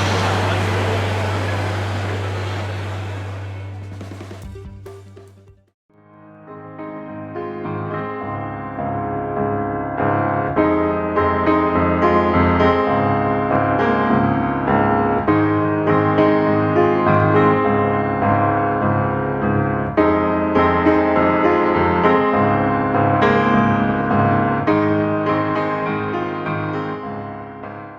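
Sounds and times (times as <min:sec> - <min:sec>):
piano background music: 0:00.0 - 0:27.9.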